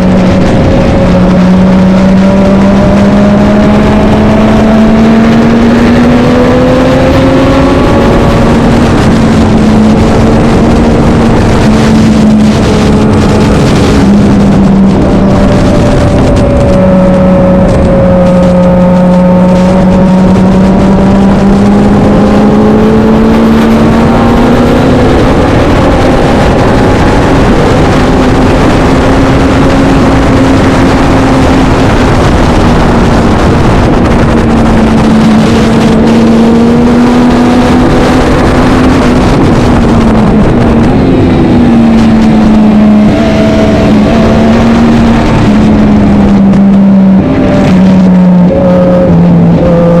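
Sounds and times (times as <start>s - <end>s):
heavy wind noise: 0.0s - 50.0s
racing motorcycle engine revving: 0.0s - 50.0s.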